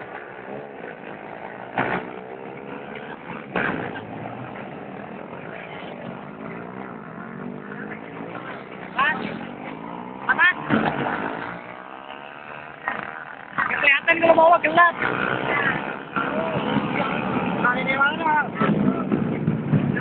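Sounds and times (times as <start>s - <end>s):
motorcycles revving: 0.0s - 20.0s.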